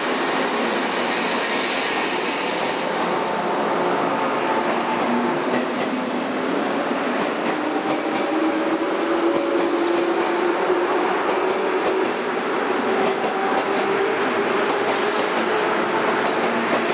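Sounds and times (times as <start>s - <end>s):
train wheels on rail: 0.0s - 16.9s.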